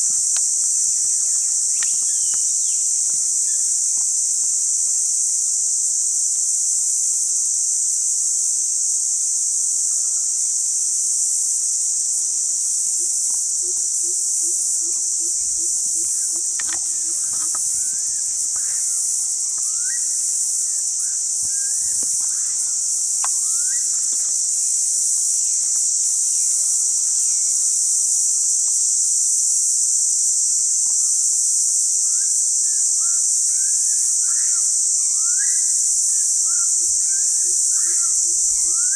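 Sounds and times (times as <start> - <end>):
high-pitched insect drone: 0.0 - 5.6, 9.8 - 38.9.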